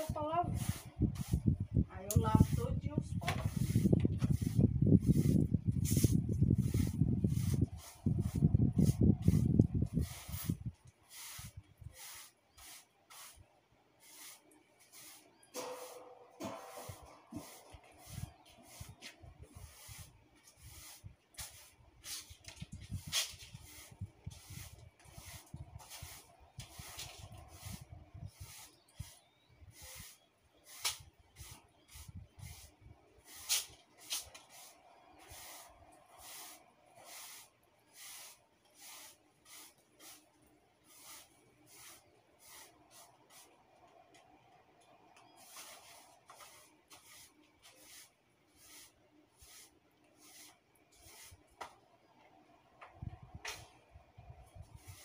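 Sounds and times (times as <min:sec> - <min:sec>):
broom sweeping tiled floor: 0:00.0 - 0:52.0, 0:52.8 - 0:53.8, 0:54.4 - 0:55.0.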